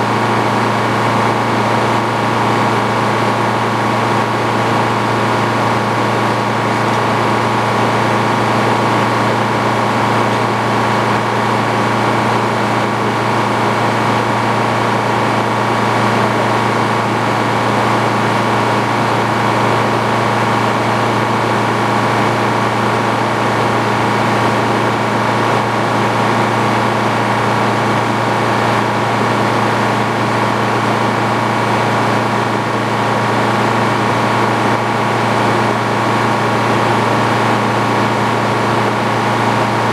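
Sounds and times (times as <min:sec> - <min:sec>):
sawmill machine hum: 0:00.0 - 0:39.9.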